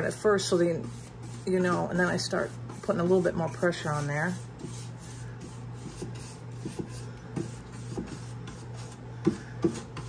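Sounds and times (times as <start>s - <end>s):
paintbrush scraping on wood: 0.0s - 9.0s.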